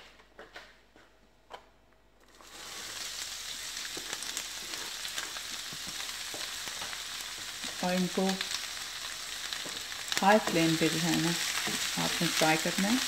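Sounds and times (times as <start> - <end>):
vegetables sizzling in hot oil: 2.3 - 13.0.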